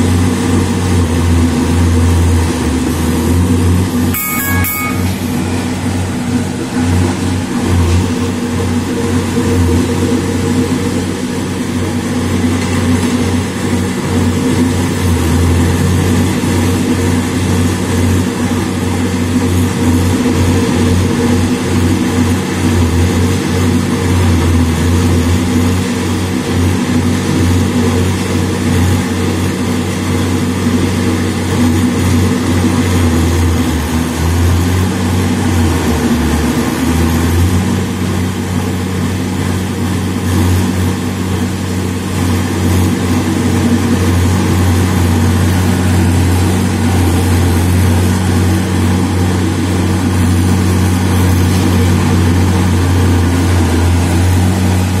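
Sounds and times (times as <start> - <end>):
road roller diesel engine: 0.0 - 55.0.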